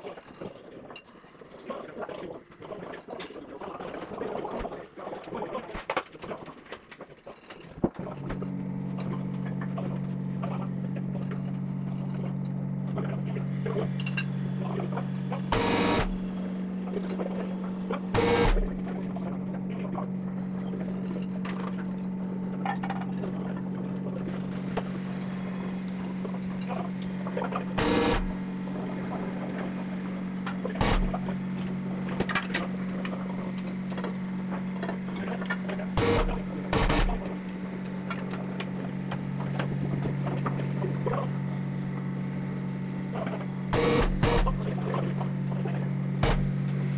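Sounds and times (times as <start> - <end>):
electric machinery hum: 7.8 - 46.9.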